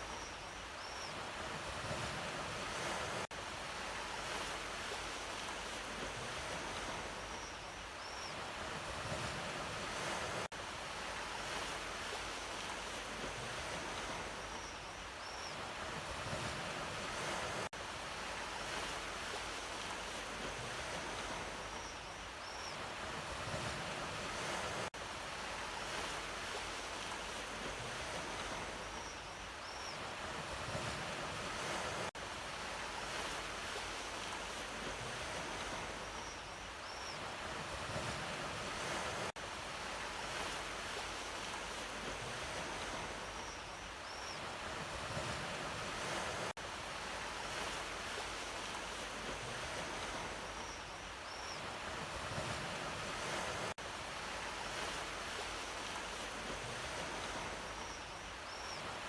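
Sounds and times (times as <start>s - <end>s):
sea waves washing on shore: 1.2s - 7.4s, 8.4s - 21.9s, 22.7s - 59.0s.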